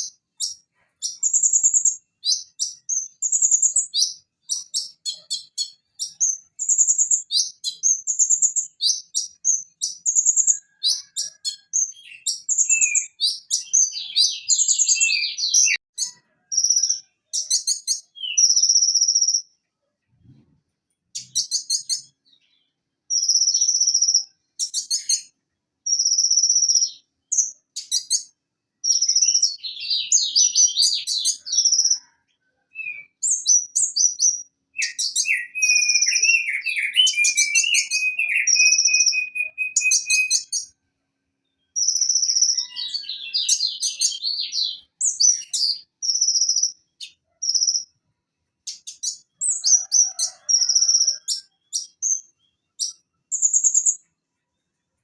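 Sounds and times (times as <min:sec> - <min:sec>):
bird singing high chirps and trills: 0:00.0 - 0:20.5, 0:21.1 - 0:40.8, 0:41.4 - 0:55.0.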